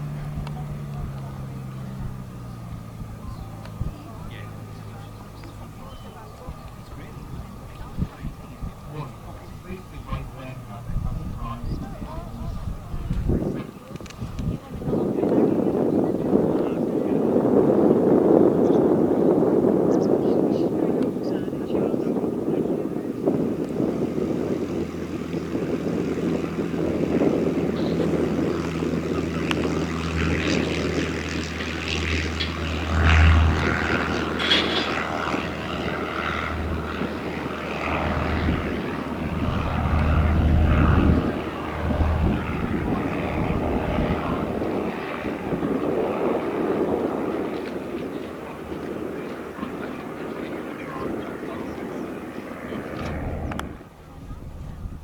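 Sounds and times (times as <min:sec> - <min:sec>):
propeller aircraft engine drone: 0:00.0 - 0:55.0.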